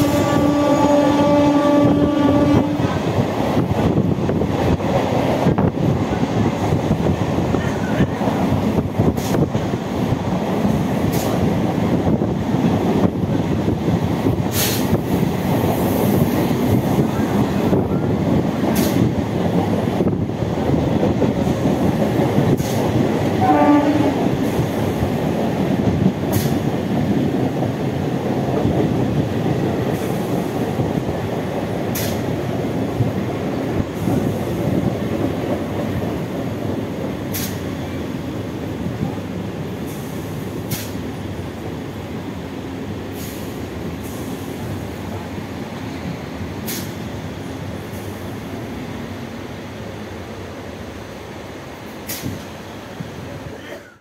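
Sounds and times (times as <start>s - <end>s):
rail joint clicks: 0.0s - 54.0s
train wheels rumbling on track: 0.0s - 54.0s.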